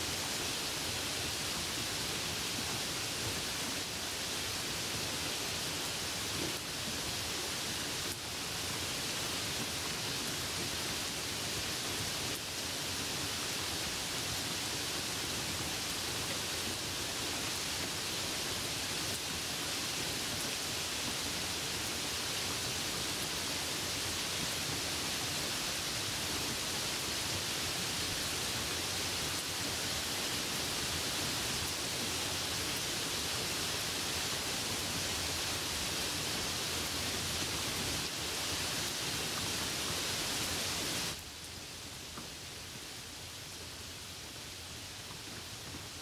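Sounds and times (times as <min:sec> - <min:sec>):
heavy rainfall: 0:00.0 - 0:46.0.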